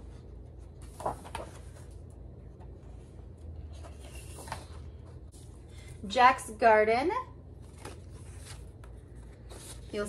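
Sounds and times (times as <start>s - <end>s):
book pages rustling: 0.0s - 5.9s, 7.6s - 10.0s.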